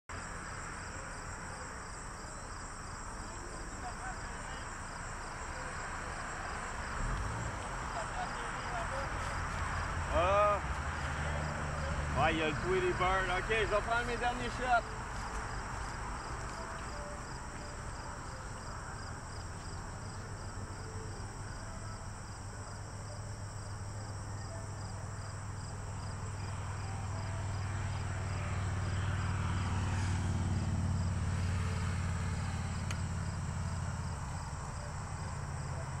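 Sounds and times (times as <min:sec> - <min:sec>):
insects chirping: 0:00.1 - 0:36.0.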